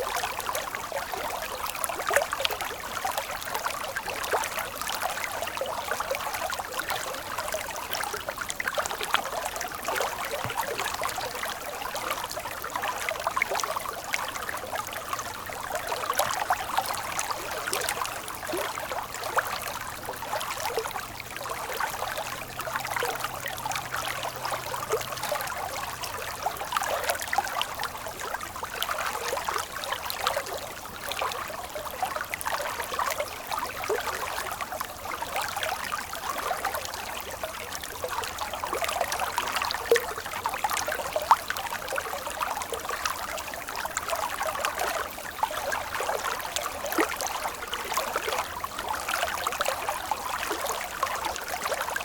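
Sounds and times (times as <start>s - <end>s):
stream water babbling: 0.0s - 52.0s.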